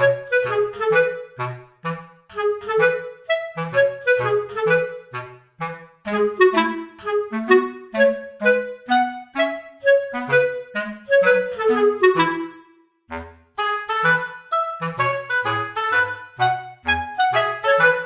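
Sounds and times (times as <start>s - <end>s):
instrumental melody: 0.0s - 18.0s.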